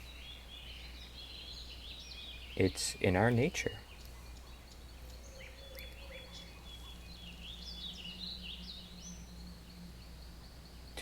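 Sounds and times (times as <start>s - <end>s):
birds chirping and singing: 0.0s - 11.0s
steady low hum: 0.0s - 11.0s.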